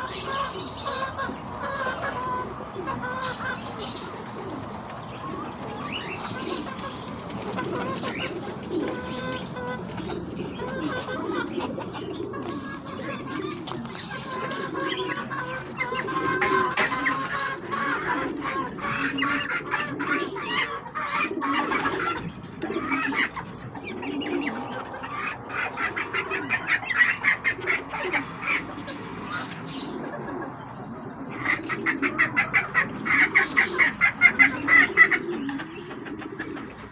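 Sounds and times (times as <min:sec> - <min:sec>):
chickens clucking: 0:00.0 - 0:36.9
pigeons cooing: 0:00.0 - 0:36.9.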